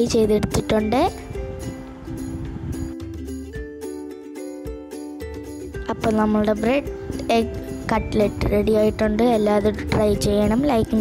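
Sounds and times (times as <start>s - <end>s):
simple melody over light beat: 0.0s - 11.0s.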